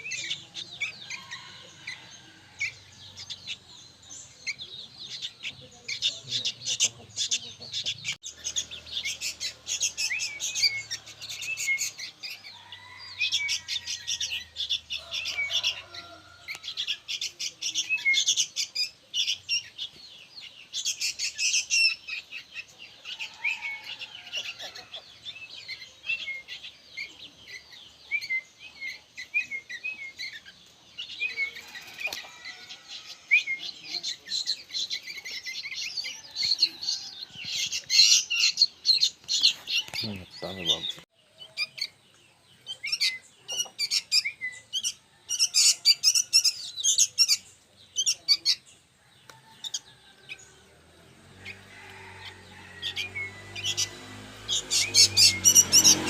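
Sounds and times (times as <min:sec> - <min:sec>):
young bulbuls chirping: 0:00.0 - 0:56.0.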